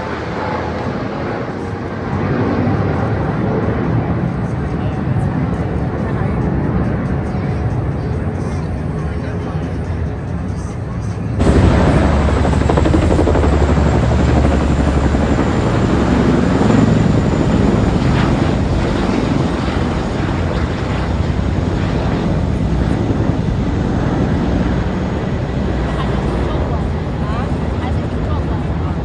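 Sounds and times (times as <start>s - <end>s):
helicopter rotor chop: 0.0s - 29.0s.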